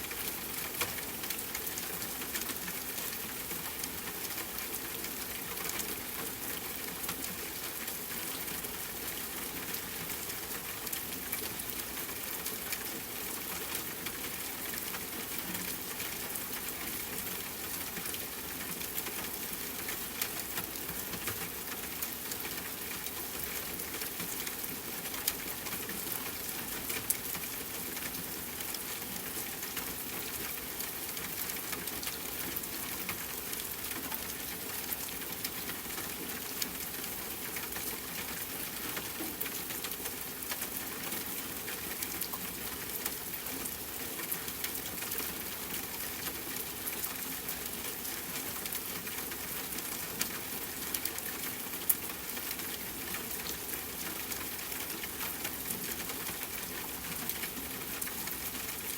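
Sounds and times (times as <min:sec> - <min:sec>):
rain falling on a tent: 0:00.0 - 0:58.9.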